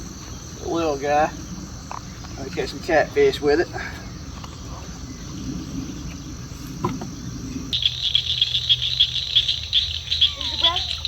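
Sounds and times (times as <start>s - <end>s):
insects chirping: 0.0s - 11.0s
low background rumble: 0.0s - 11.0s.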